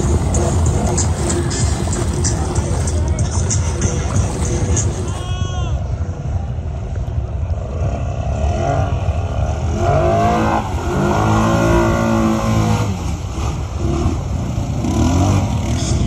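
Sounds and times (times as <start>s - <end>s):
atv engine revving: 0.0s - 5.1s, 7.7s - 16.0s
tyres churning through muddy water: 0.0s - 6.0s, 7.6s - 16.0s.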